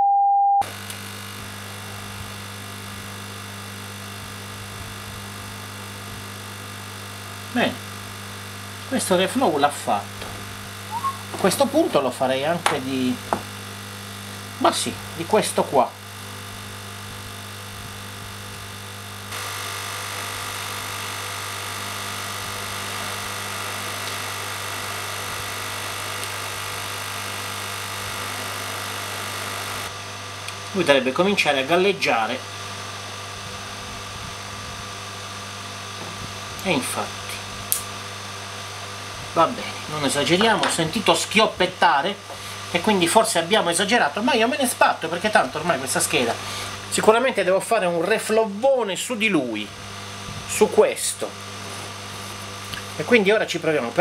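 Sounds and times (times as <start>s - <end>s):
hot-air station blowing air: 0.7s - 54.0s.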